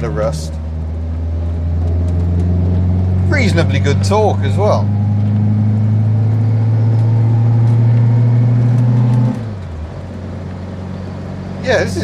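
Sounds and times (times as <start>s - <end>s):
car engine pulling under load: 0.0s - 12.0s.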